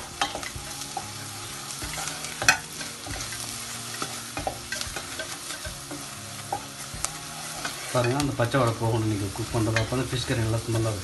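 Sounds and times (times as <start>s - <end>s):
wooden spatula scraping a pot: 0.0s - 10.0s
frying sizzle: 0.0s - 11.0s.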